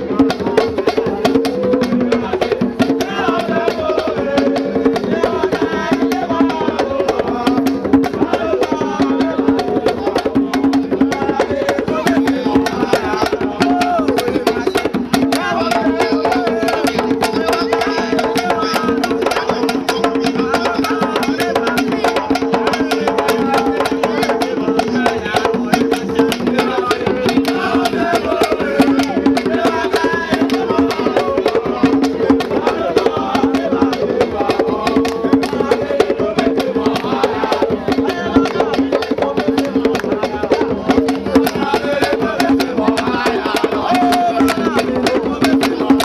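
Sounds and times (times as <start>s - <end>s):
fast drum and wood-block percussion: 0.0s - 46.0s.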